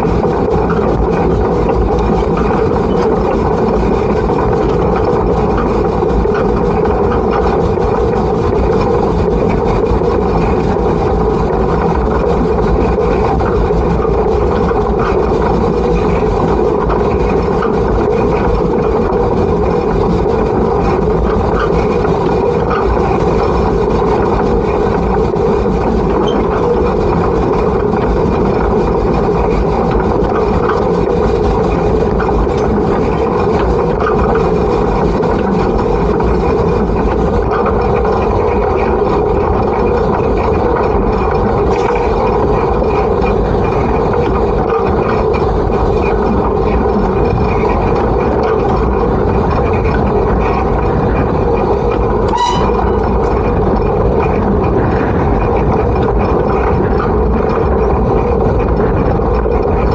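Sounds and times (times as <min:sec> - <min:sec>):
steam locomotive rumble and hiss: 0:00.0 - 0:59.9.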